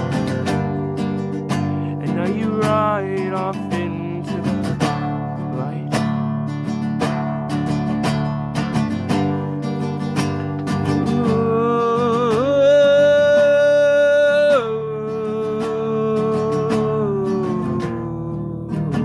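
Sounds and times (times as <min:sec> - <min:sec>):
acoustic guitar strumming: 0:00.0 - 0:19.0
held guitar melody note bending: 0:00.0 - 0:19.0.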